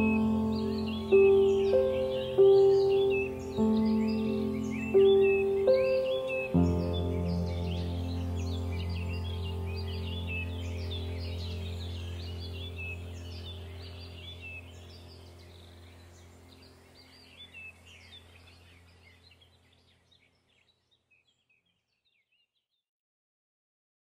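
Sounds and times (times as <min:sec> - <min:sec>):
low steady drone: 0:00.0 - 0:19.4
birds chirping: 0:00.0 - 0:22.5.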